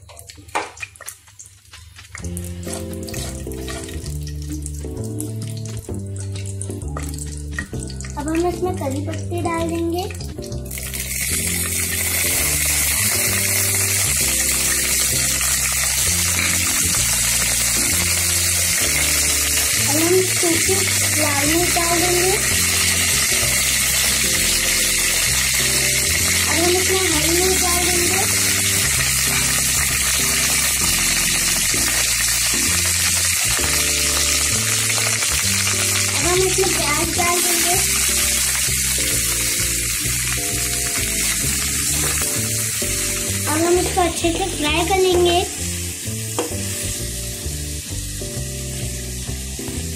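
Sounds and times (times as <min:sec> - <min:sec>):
leaves sizzling in hot oil: 0:00.0 - 0:49.9
background music with low notes: 0:01.8 - 0:49.9.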